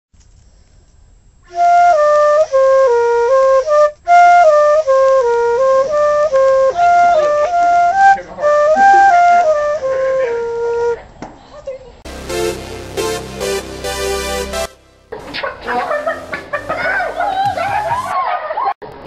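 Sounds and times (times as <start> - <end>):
flute melody: 1.5 - 11.1, 12.1 - 18.2.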